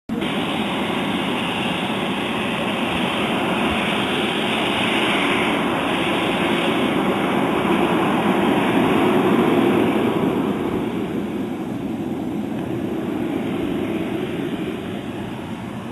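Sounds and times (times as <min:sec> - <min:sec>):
model aircraft engines running: 0:00.1 - 0:15.9.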